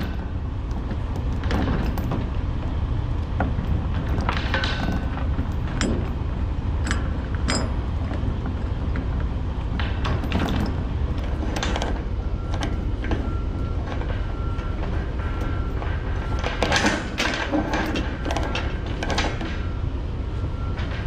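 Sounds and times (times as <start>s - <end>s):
metal chain clicks and clanks: 0.0s - 19.8s
steady low rumble: 0.0s - 21.0s.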